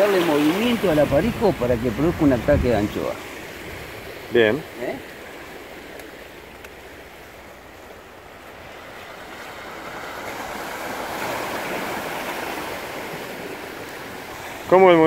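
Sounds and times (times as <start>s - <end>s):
sea surf against rocks: 0.0s - 15.0s
wave breaking: 0.0s - 15.0s.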